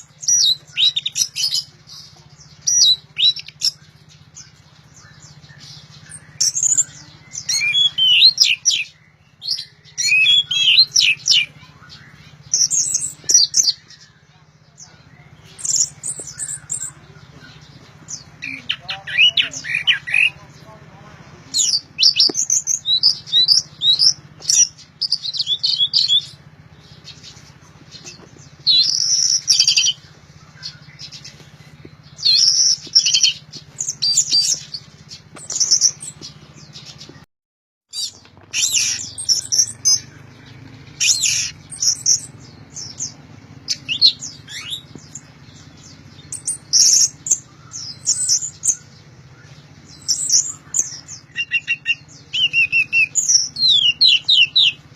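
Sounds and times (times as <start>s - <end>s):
thrush singing: 0.0s - 37.2s, 37.9s - 54.9s
steady low hum: 0.0s - 37.3s, 37.9s - 54.9s.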